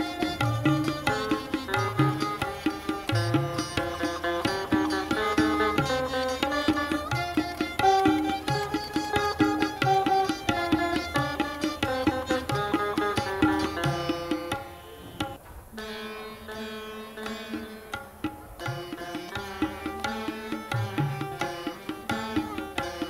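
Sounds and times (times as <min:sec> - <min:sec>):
veenas playing plucked notes: 0:00.0 - 0:23.0
violin accompanying: 0:00.0 - 0:23.0.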